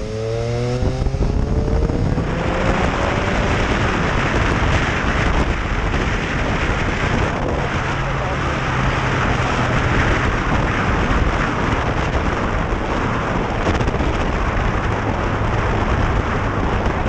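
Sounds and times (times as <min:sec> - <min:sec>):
motorcycle engine humming: 0:00.0 - 0:17.0
wind buffeting microphone: 0:00.0 - 0:17.0.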